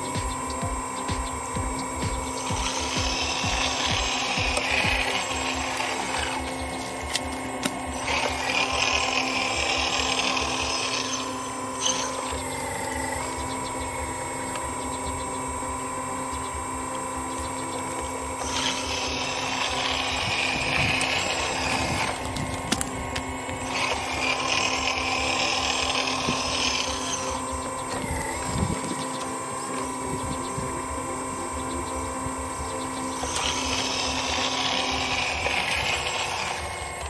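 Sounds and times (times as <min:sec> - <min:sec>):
hydraulic pump whining: 0:00.0 - 0:37.0.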